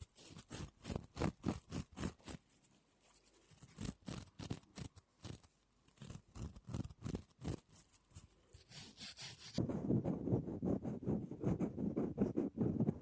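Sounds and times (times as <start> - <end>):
crisp scratching strokes: 0.0 - 13.0.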